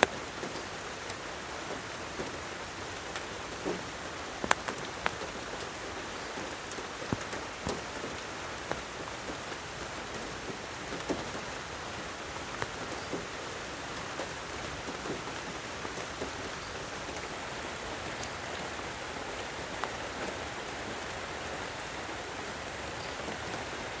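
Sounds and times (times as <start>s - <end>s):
rain falling on leaves: 0.0s - 24.0s
single raindrops close by: 0.0s - 24.0s.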